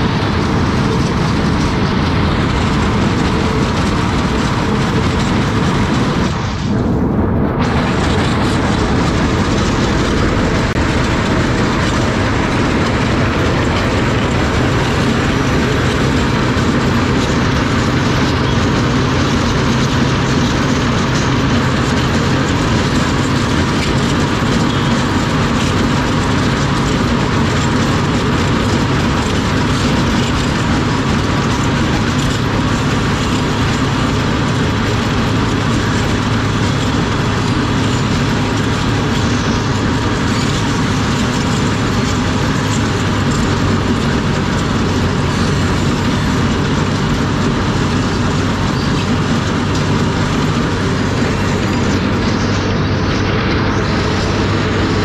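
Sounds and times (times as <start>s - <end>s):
diesel engine under load: 0.0s - 55.0s
drum grinding road surface: 0.0s - 55.0s.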